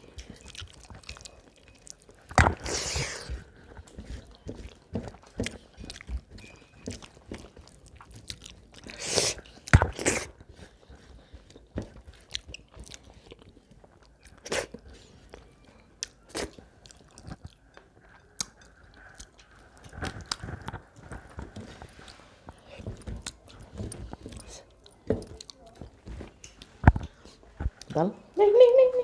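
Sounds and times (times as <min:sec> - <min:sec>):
chewing food: 0:00.0 - 0:28.0.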